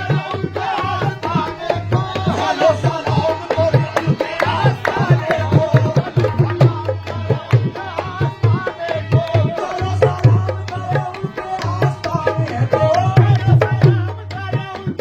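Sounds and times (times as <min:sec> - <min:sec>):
hand drum rhythm: 0:00.0 - 0:15.0.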